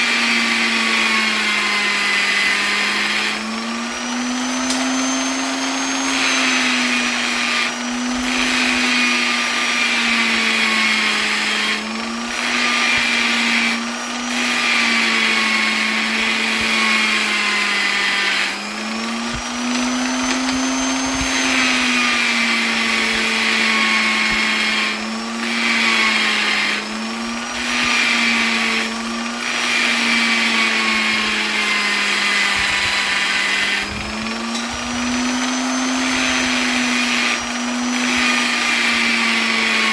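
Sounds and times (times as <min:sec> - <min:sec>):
electric polisher running: 0:00.0 - 0:39.9.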